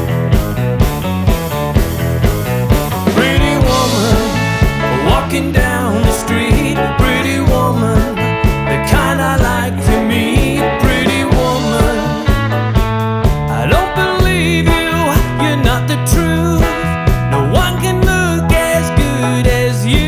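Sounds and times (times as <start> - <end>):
bass and guitar: 0.0 - 20.0
drum beat: 0.0 - 20.0
person singing: 3.0 - 12.8, 13.4 - 20.0.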